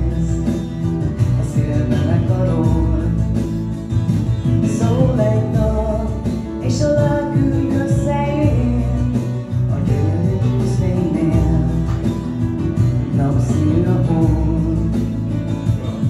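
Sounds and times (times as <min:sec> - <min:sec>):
guitar accompaniment: 0:00.0 - 0:16.0
person singing: 0:00.0 - 0:16.0.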